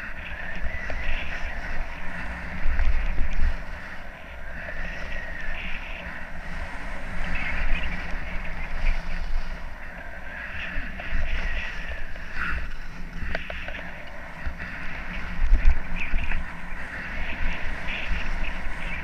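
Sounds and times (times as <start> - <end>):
skis scraping on packed snow: 0.0 - 19.0
wind buffeting microphone: 0.0 - 19.0.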